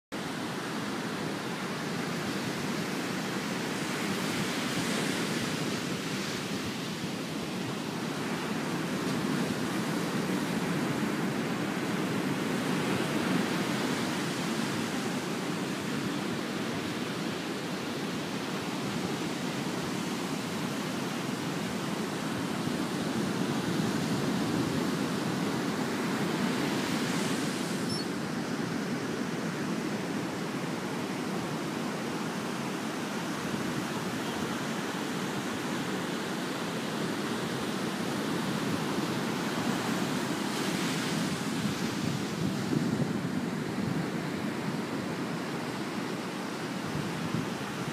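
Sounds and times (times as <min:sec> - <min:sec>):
ocean surf breaking on beach: 0:00.2 - 0:47.9.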